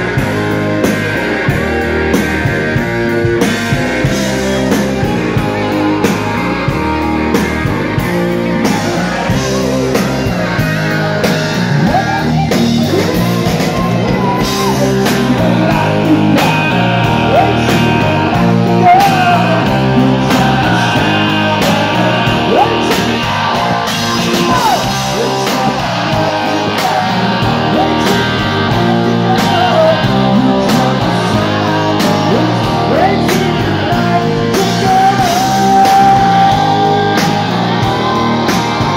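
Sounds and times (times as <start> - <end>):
electric guitar bending notes: 0.0 - 38.9
steady drum beat: 0.0 - 38.9.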